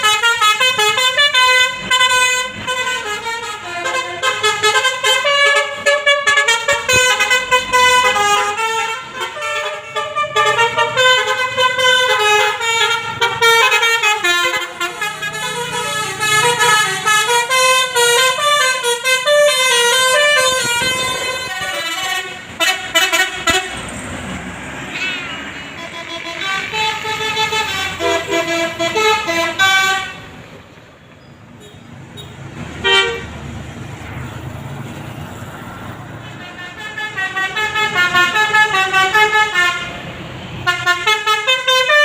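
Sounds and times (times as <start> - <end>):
multi-tone bus air horn melody: 0.0 - 23.9, 24.9 - 30.4, 31.6 - 33.4, 36.0 - 42.0.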